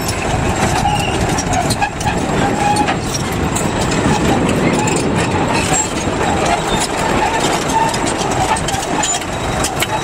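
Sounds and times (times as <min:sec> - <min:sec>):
bulldozer diesel engine running: 0:00.0 - 0:10.0
tracks clanking: 0:00.0 - 0:10.0.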